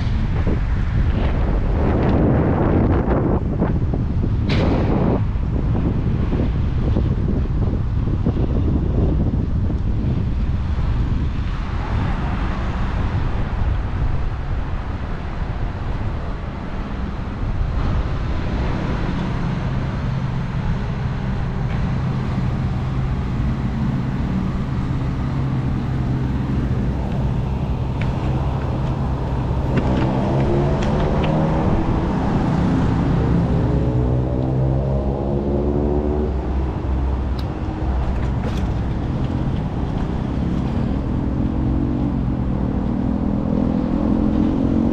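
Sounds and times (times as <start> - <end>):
steady vehicle hum: 0.0 - 44.9
wind rushing over microphone: 0.0 - 44.9.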